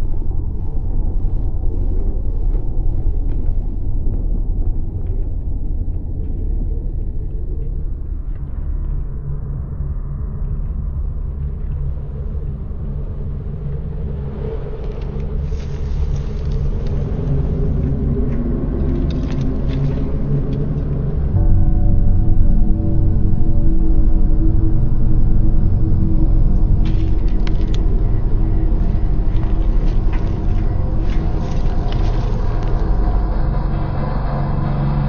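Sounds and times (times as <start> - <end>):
engine low rumble: 0.0 - 35.0.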